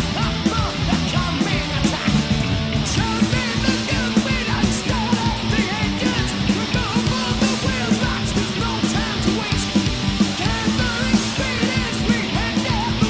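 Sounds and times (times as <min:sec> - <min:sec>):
fast punk rock music: 0:00.0 - 0:13.0.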